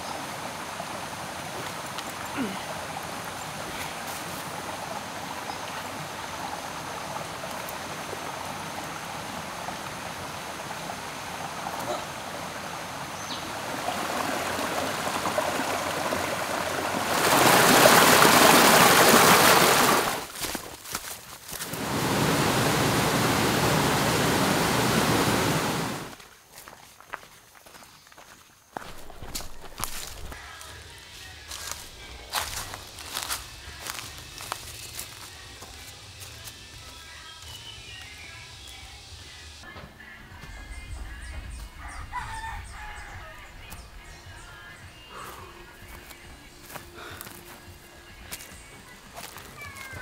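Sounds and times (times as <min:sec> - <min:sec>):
forest stream rushing: 0:00.0 - 0:26.7, 0:28.8 - 0:39.0, 0:41.5 - 0:50.0.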